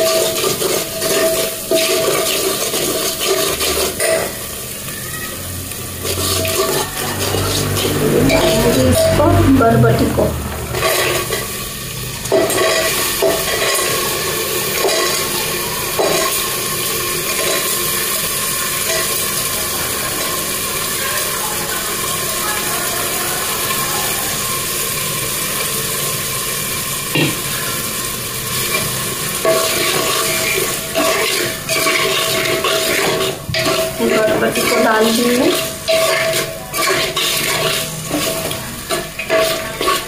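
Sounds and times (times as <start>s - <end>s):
peas sizzling in hot oil: 0.0s - 40.0s.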